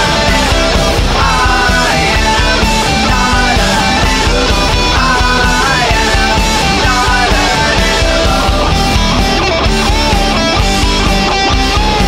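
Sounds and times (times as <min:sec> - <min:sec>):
instrumental heavy rock music: 0:00.0 - 0:12.0.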